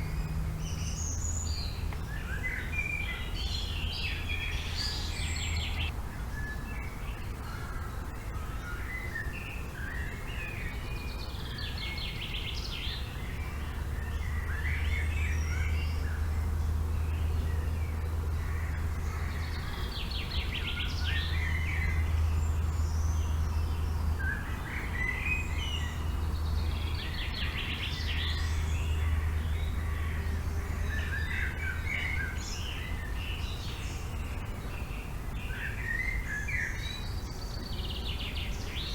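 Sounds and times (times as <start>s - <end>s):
birds singing and calling: 0.0s - 38.9s.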